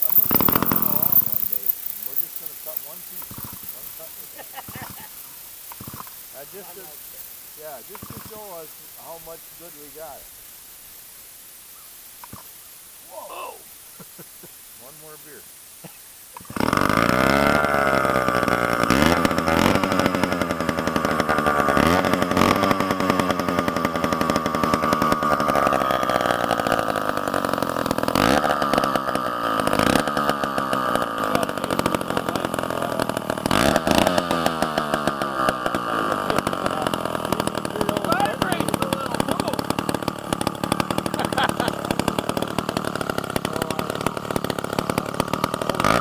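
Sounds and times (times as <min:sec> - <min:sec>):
chainsaw engine revving: 0:00.0 - 0:10.2, 0:16.4 - 0:46.0.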